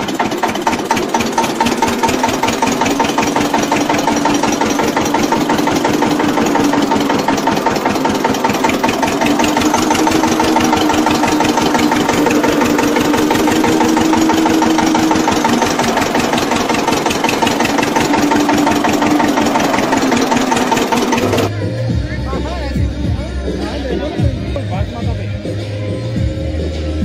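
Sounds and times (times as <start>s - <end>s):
tractor engine idling: 0.0s - 25.2s.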